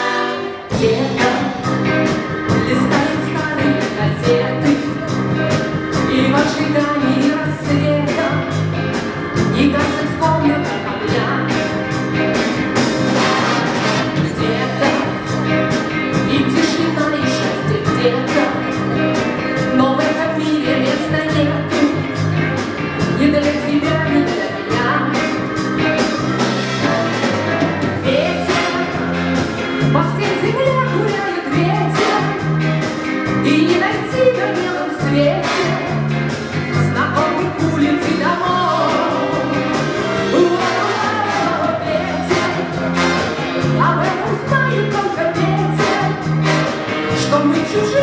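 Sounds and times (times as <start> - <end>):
woman singing: 0.0 - 8.6, 9.4 - 12.0, 13.1 - 22.2, 23.0 - 26.0, 26.7 - 48.0
big band playing live: 0.0 - 48.0.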